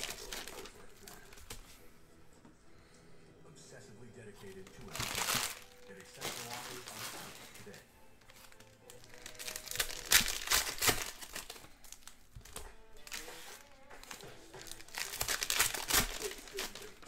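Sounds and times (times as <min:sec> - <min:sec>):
plastic wrappers crinkling: 0:00.0 - 0:01.8, 0:04.4 - 0:17.0
faint music: 0:00.0 - 0:17.0.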